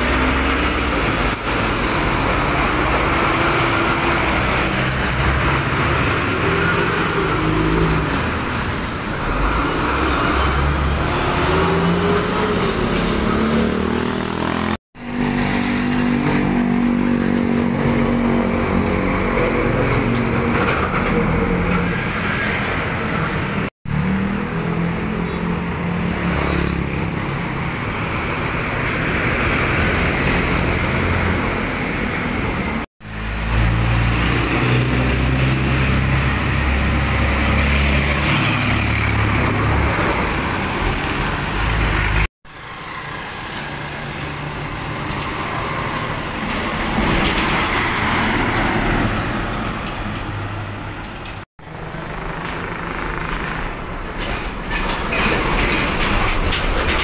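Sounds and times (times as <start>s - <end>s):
heavy trucks driving past: 0.0s - 57.0s
tyre noise on road: 0.0s - 57.0s.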